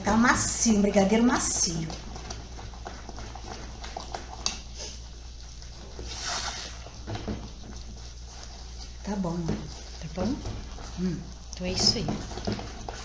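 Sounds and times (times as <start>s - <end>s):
spatula stirring thick mixture: 0.0s - 13.0s.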